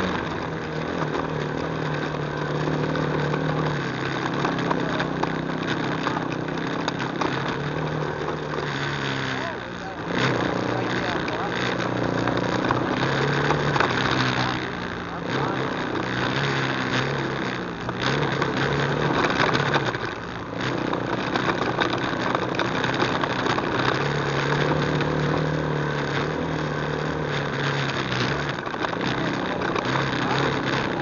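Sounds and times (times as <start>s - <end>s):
quad engine running: 0.0s - 31.0s.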